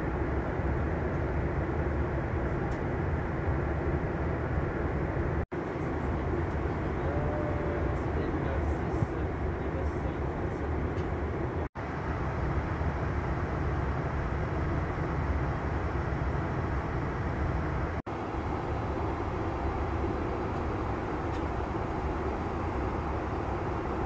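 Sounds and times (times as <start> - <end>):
jet cabin rumble and air rush: 0.0 - 24.0.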